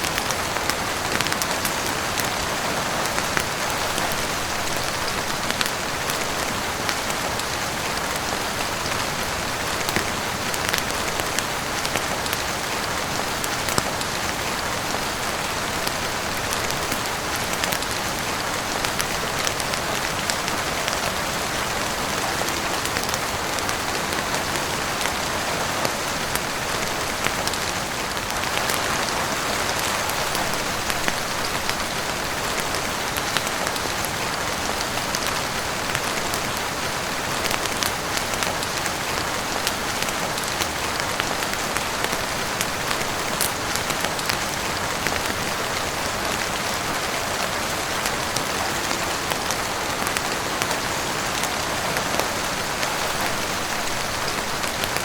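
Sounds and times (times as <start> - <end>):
heavy rain on roof and windows: 0.0 - 55.0.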